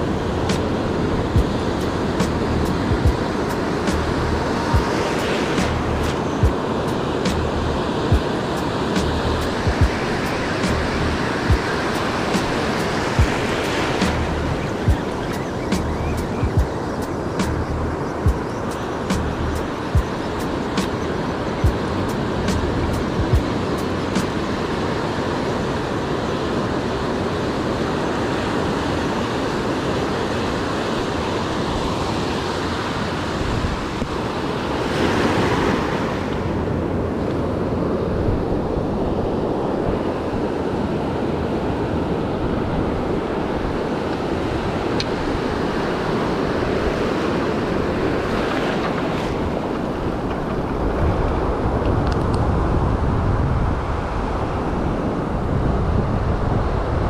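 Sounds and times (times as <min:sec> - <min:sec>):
ocean surf washing in: 0:00.0 - 0:57.0
wind buffeting microphone: 0:00.0 - 0:57.0.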